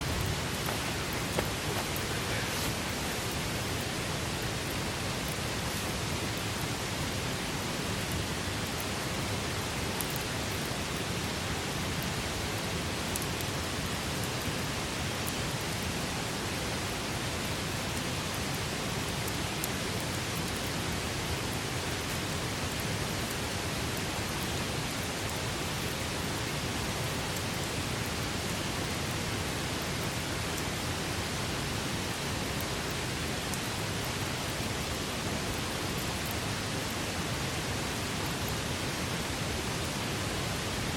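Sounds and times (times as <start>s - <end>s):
campfire burning: 0.0s - 39.9s.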